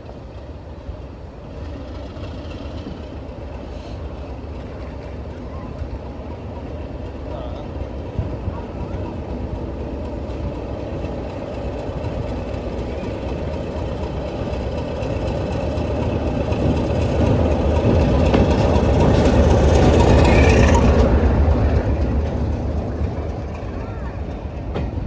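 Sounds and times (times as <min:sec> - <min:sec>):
diesel locomotive engine rumbling: 0:00.0 - 0:25.0.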